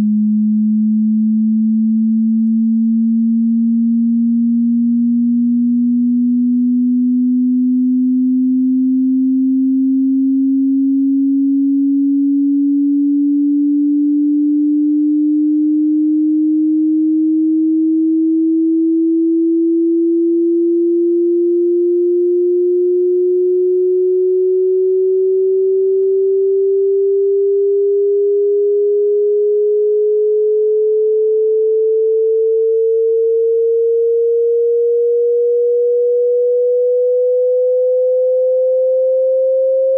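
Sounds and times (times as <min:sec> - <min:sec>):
sine tone gliding upward: 0:00.0 - 0:39.9.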